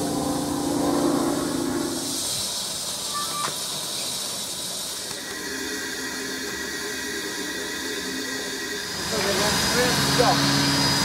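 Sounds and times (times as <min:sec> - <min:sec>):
steam hissing from a valve: 0:00.7 - 0:11.0.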